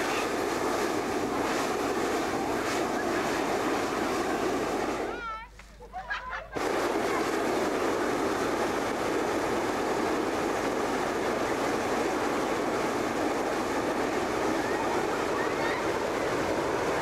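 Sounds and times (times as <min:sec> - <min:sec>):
propane burner hissing: 0:00.0 - 0:05.4, 0:06.5 - 0:17.0.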